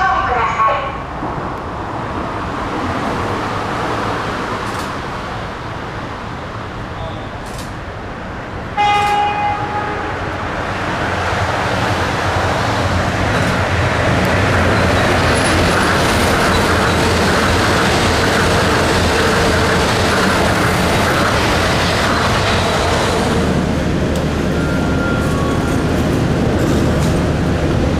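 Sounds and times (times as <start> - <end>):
monorail train rushing past: 0.0 - 27.9.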